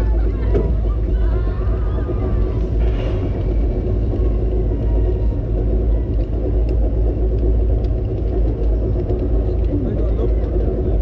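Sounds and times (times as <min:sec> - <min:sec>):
roller coaster low rumble: 0:00.0 - 0:11.0.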